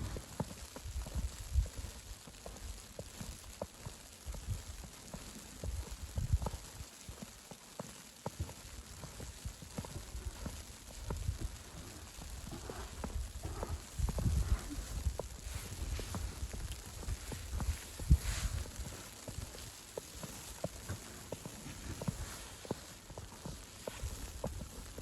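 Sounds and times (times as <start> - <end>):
footsteps crunching through snow: 0.0 - 25.0.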